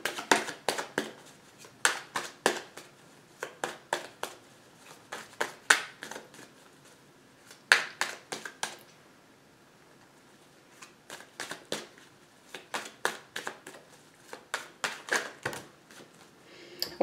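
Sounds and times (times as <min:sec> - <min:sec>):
cards being shuffled: 0:00.0 - 0:08.8, 0:10.7 - 0:16.3.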